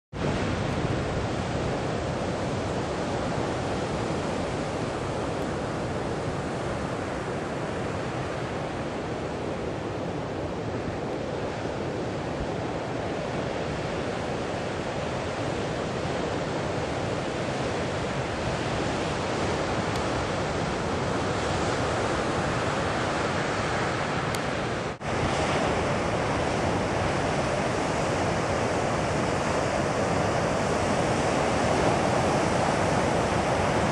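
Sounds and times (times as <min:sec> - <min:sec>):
ocean waves crashing: 0:00.2 - 0:33.9.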